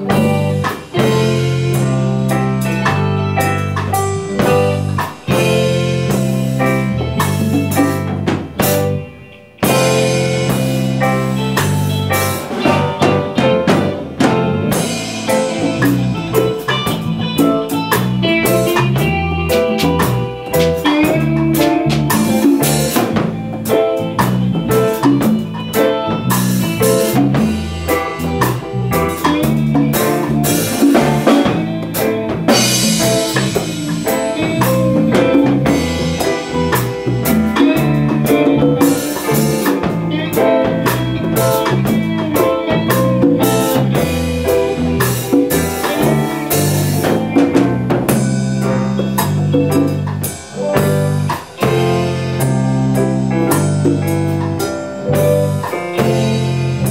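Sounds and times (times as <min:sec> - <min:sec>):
band playing live: 0:00.0 - 0:56.9
drum kit beat: 0:00.0 - 0:56.9.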